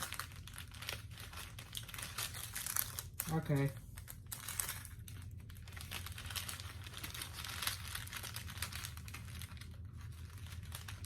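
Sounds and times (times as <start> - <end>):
low steady hum: 0.0 - 11.0
plastic bags crinkling: 0.0 - 11.0.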